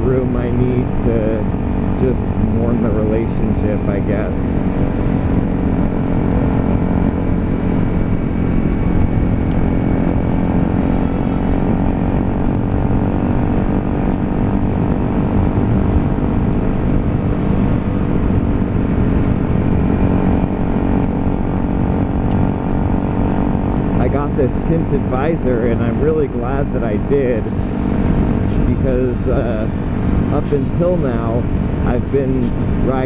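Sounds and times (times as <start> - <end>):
motorcycle engine cruising: 0.0 - 33.0
wind and road rush: 0.0 - 33.0.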